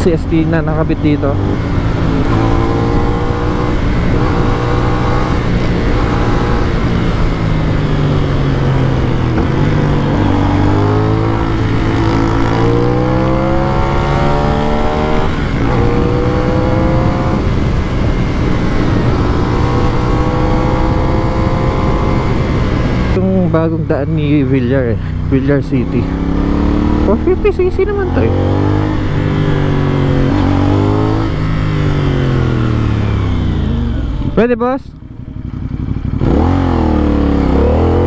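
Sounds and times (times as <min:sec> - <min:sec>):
motorcycle engine while riding: 0:00.0 - 0:38.0.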